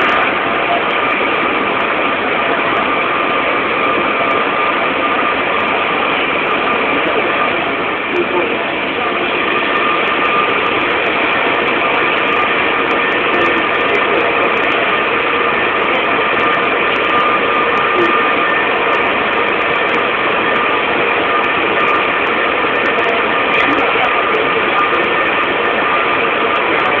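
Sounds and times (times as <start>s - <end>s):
train motor whine: 0.0s - 27.0s
train rushing rumble: 0.0s - 27.0s.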